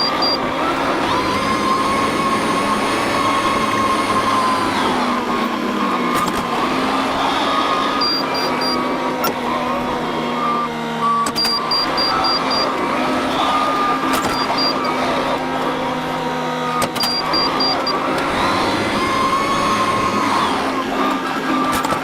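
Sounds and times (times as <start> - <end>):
constant mechanical whine: 0.0 - 22.0
harvest machinery engine running: 0.0 - 22.0.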